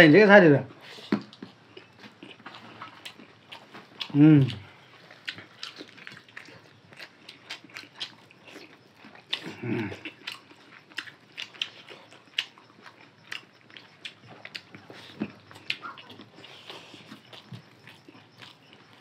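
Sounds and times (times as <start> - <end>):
wet mouth smacks and chewing: 1.0 - 19.0.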